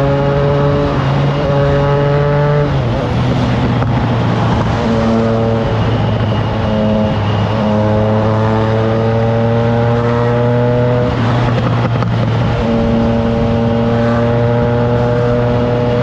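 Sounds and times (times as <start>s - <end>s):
motorcycle engine running: 0.0s - 16.0s
wind noise: 0.0s - 16.0s.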